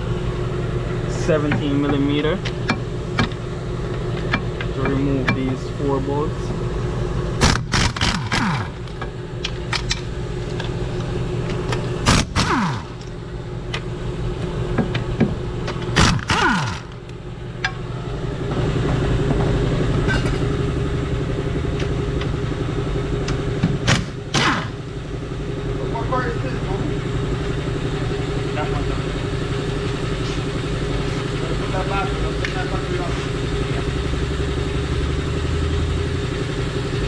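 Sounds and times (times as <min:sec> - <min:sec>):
air compressor humming: 0:00.0 - 0:37.0.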